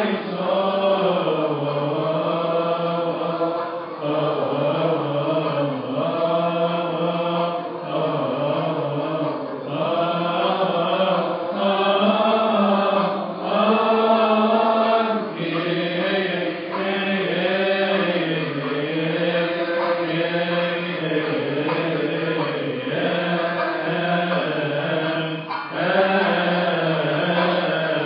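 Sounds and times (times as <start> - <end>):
many voices chanting a hymn: 0.0 - 28.0.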